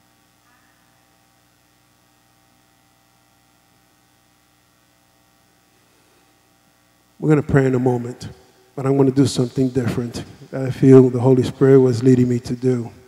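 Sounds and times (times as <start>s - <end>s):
faint mains hum: 0.0s - 13.0s.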